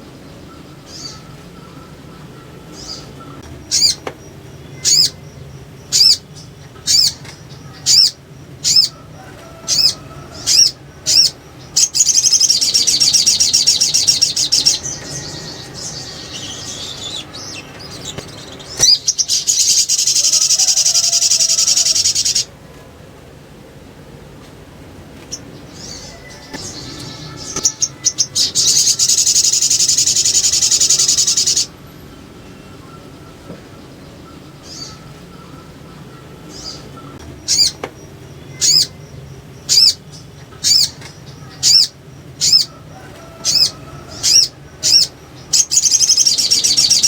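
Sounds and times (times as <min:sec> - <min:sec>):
bird chattering trills: 0:00.0 - 0:22.6, 0:25.3 - 0:47.0.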